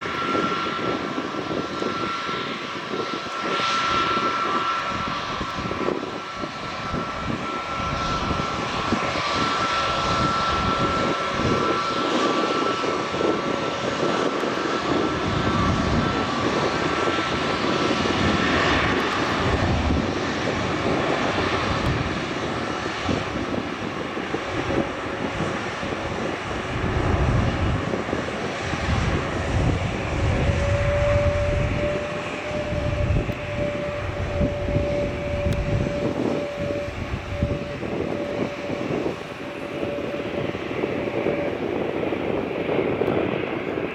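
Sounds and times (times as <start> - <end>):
jet engines high whine: 0.0 - 43.9.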